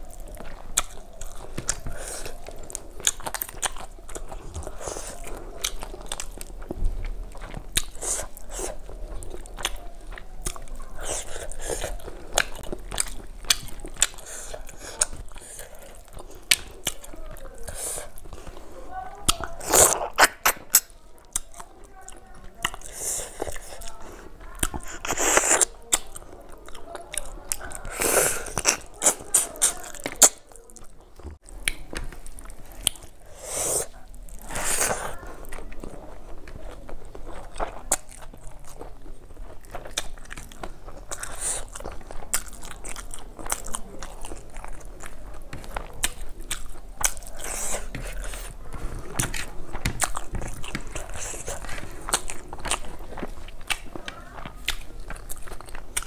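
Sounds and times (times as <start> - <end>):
fingers mixing rice: 0.0 - 56.0
wet chewing and crunching: 0.0 - 56.0.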